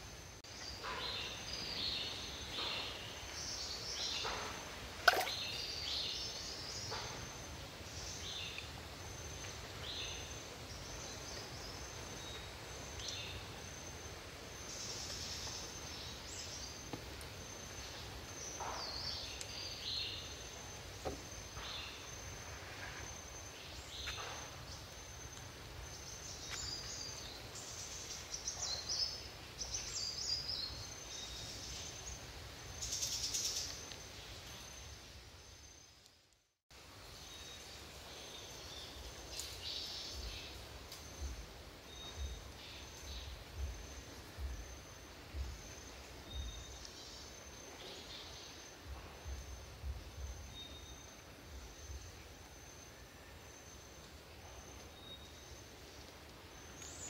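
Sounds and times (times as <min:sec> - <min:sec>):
faint steady background hiss: 0:00.0 - 0:57.0.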